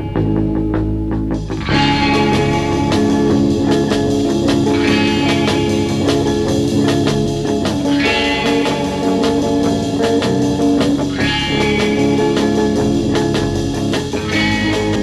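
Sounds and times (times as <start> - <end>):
drums keeping a steady beat: 0.0 - 15.0
guitar-led music: 0.0 - 15.0.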